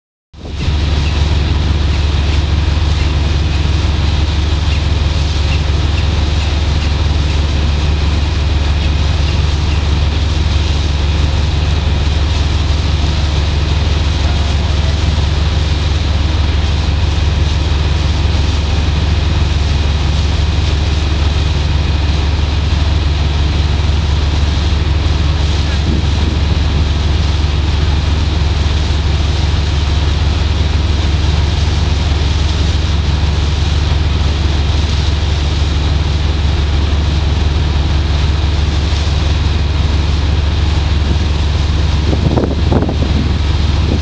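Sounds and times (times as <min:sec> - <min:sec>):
ship engines rumbling: 0:00.4 - 0:44.0.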